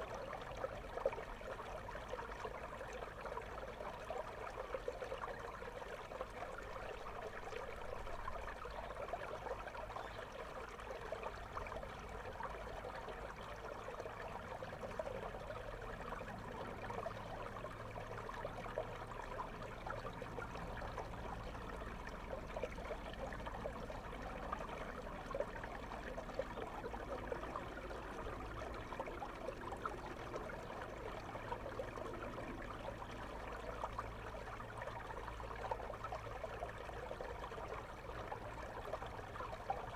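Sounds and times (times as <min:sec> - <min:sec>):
underwater river rush: 0:00.0 - 0:39.9.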